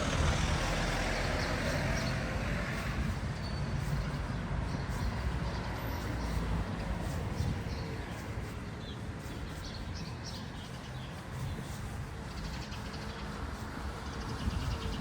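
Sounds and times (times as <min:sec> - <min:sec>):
birds chirping: 0:00.0 - 0:15.0
low rumble of traffic: 0:00.0 - 0:15.0.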